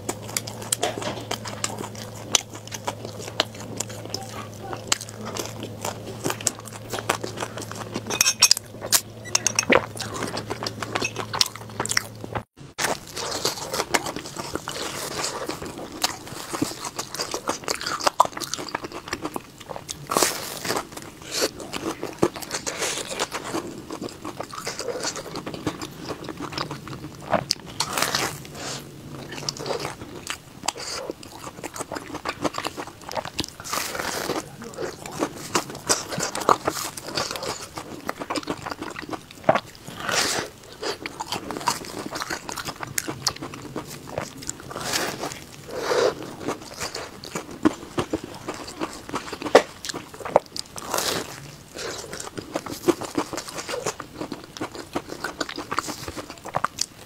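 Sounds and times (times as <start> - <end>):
crunchy bites and chewing: 0.0 - 57.0.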